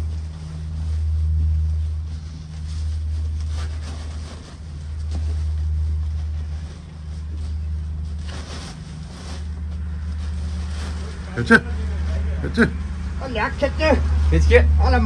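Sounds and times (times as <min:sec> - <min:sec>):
cloth sheet being handled: 0:00.0 - 0:13.2
rustling of chopped straw: 0:00.0 - 0:13.2.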